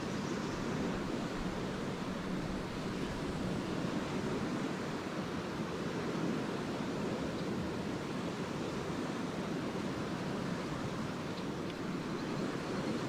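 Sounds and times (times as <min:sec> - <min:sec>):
lake waves washing onto shore: 0:00.0 - 0:13.0.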